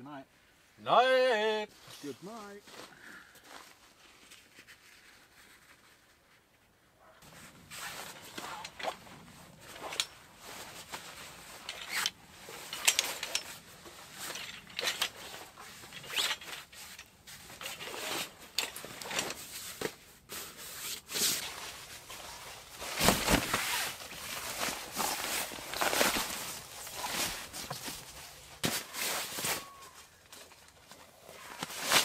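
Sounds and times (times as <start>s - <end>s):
fabric rustling: 1.7s - 32.0s.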